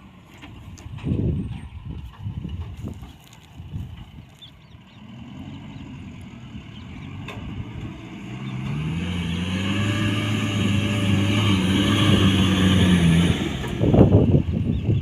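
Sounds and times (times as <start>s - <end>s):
diesel pickup engine driving: 0.0s - 15.0s.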